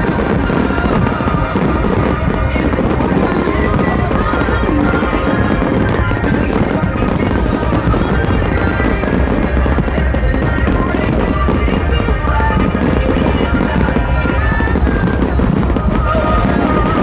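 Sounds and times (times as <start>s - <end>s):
crowd voices: 0.0s - 17.0s
electronic dance music: 0.0s - 17.0s
fireworks popping and crackling: 0.0s - 17.0s.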